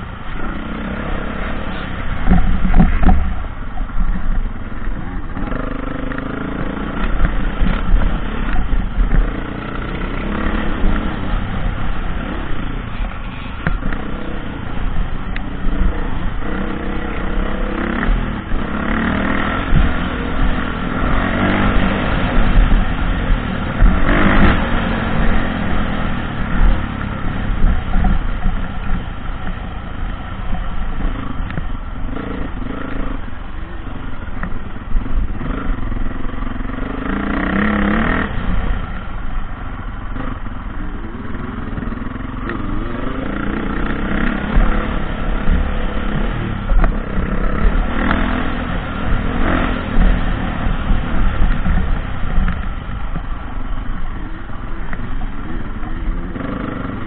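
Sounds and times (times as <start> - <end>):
dirt bike engine: 0.0 - 57.0
wind rumble on microphone: 0.0 - 57.0.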